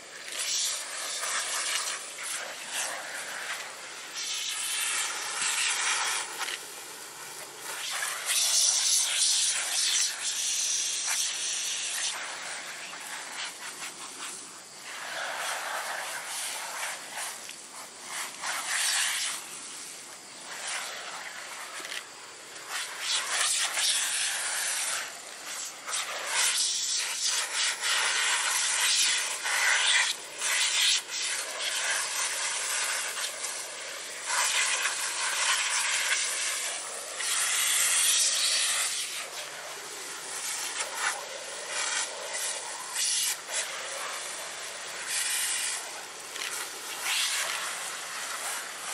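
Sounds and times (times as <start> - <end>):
garden hose spraying water: 0.0 - 48.9.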